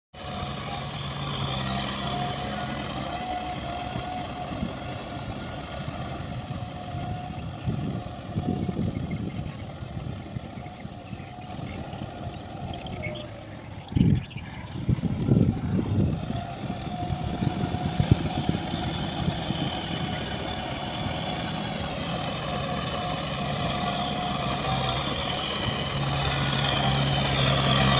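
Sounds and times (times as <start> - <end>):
tractor diesel engine under load: 0.1 - 27.9.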